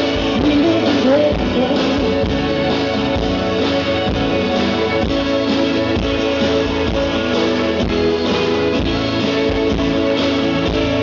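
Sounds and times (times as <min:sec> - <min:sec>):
steady drum beat: 0:00.0 - 0:11.0
strummed guitars: 0:00.0 - 0:11.0.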